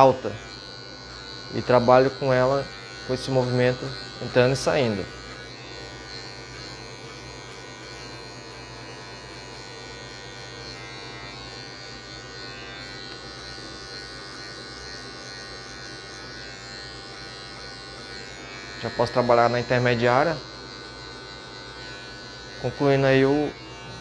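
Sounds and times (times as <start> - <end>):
electric hair clipper buzzing: 0.0 - 24.0.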